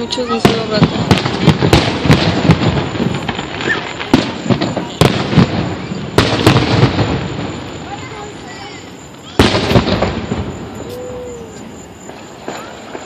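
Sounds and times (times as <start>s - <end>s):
fireworks booms and crackles: 0.0s - 13.0s.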